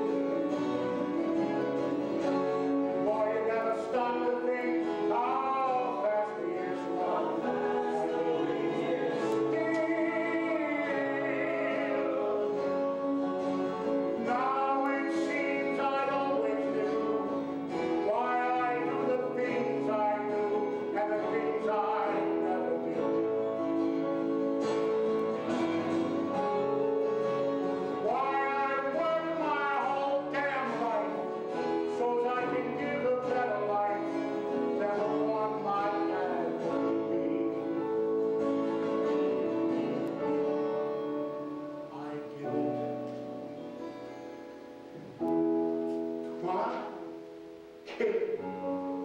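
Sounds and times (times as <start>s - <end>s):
man singing: 0.0s - 43.0s
instrumental accompaniment: 0.0s - 49.0s.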